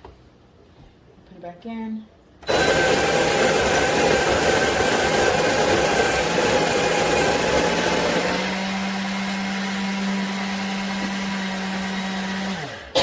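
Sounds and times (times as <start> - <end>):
coffee grinder grinding beans: 2.4 - 13.0.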